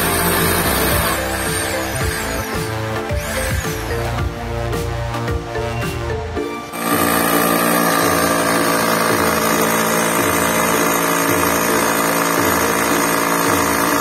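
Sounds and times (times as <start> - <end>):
electric drill whining: 0.0 - 4.6, 6.2 - 14.0.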